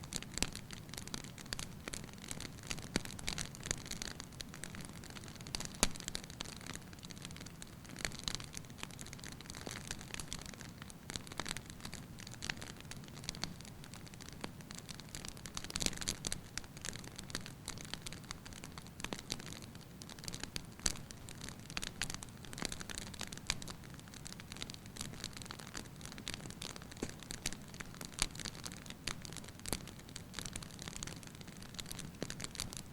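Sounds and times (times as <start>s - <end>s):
fire popping: 0.1s - 32.9s
firewood crackling: 0.1s - 32.9s.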